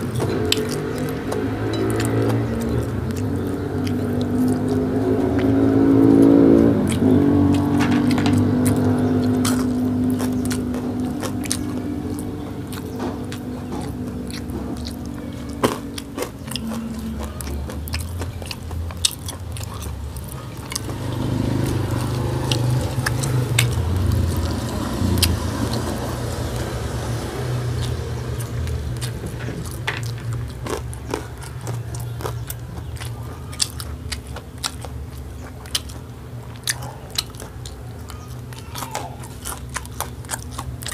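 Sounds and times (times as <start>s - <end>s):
man chewing and biting food: 0.0s - 40.9s
vehicle engine drone: 0.0s - 40.9s.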